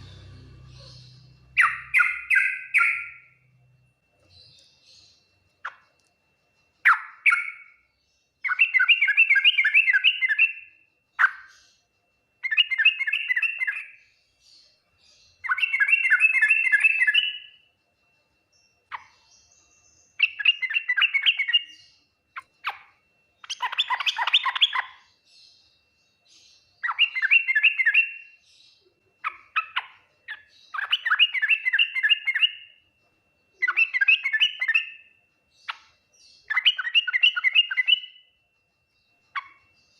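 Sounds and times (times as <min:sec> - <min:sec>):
bird singing warbled phrases: 0:00.0 - 0:03.6, 0:06.8 - 0:17.7, 0:18.5 - 0:38.4, 0:39.0 - 0:39.9.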